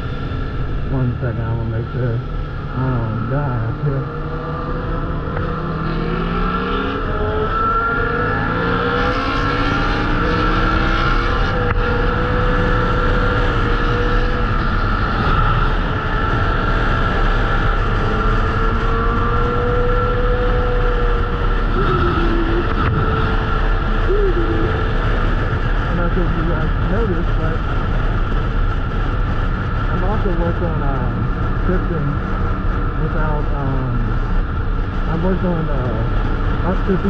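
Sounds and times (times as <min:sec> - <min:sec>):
motorcycle engine at speed: 0:00.0 - 0:37.0
wind rush on microphone: 0:01.9 - 0:37.0.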